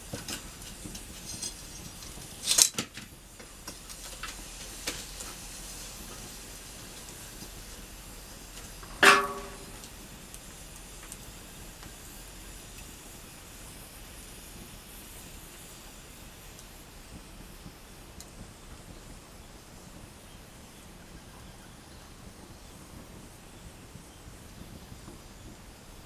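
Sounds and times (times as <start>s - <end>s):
wood fire hissing: 0.0s - 26.0s.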